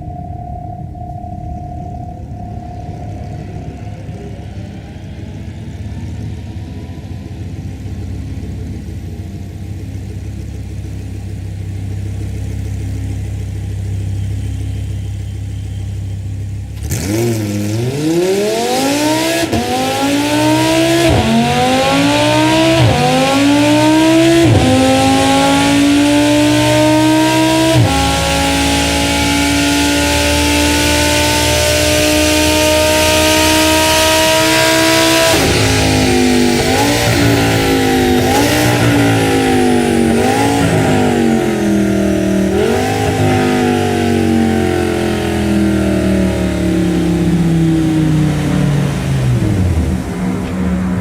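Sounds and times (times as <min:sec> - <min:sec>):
low engine rumble: 0:00.0 - 0:17.1, 0:19.4 - 0:51.0
sports car engine accelerating: 0:00.0 - 0:51.0.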